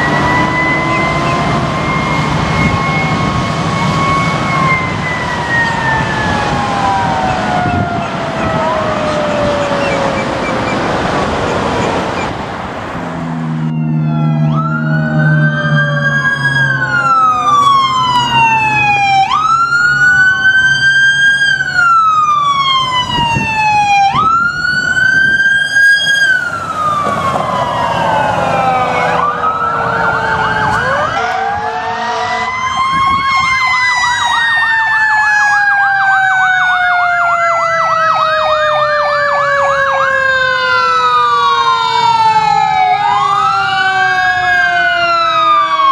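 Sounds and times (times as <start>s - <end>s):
emergency vehicle siren wailing: 0.0s - 45.9s.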